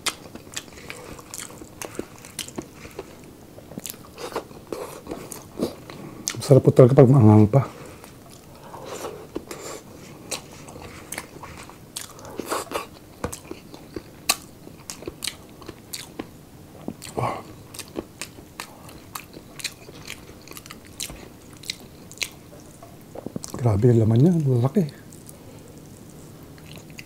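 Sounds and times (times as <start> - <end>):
person chewing and crunching: 0.0 - 6.5, 8.0 - 23.6, 25.0 - 27.0.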